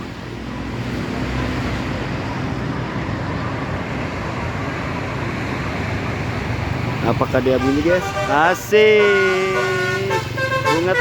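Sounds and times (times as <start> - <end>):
bus driving past: 0.0 - 11.0.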